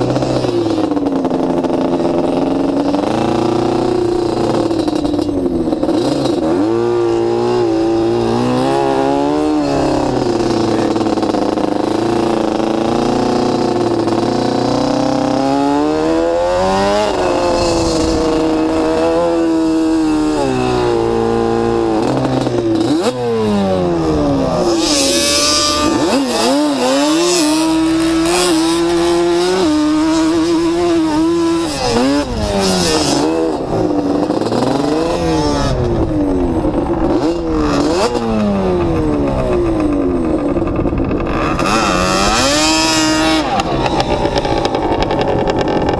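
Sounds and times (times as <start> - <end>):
quad engine revving: 0.0 - 45.9.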